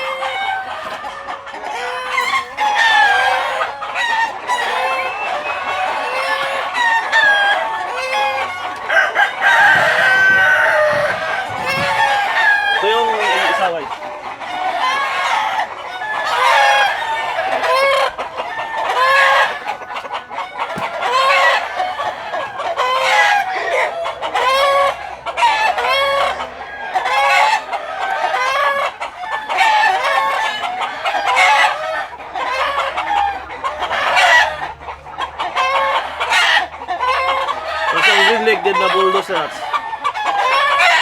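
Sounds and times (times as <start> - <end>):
chickens crowing and clucking: 0.0 - 41.0.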